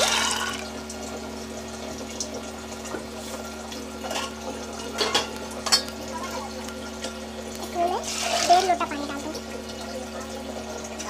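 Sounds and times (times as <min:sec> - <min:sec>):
water pouring into a pot: 0:00.0 - 0:11.0.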